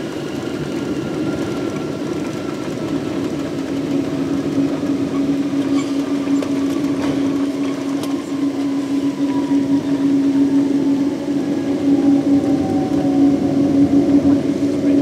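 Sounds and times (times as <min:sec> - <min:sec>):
jet engines and airflow rumble: 0:00.0 - 0:15.0
low steady hum: 0:02.5 - 0:15.0.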